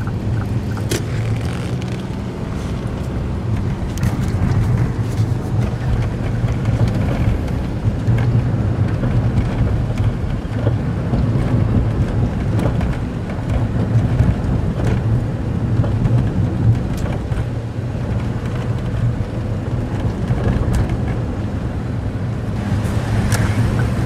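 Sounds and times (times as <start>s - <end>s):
car engine and road hum: 0.0s - 24.0s.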